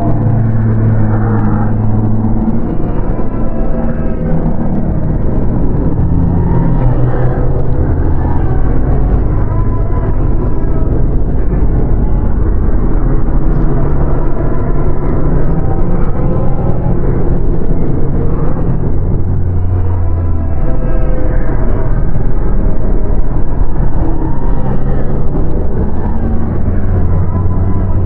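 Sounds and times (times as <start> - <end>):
droning tones: 0.0 - 28.0
loud low rumble: 0.0 - 28.0.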